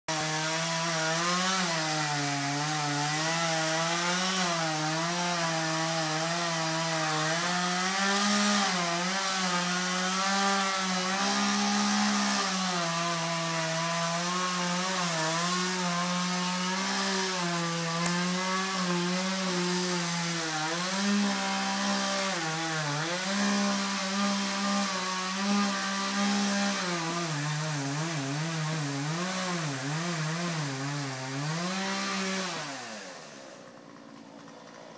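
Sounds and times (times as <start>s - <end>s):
chainsaw cutting through wood: 0.0s - 34.9s.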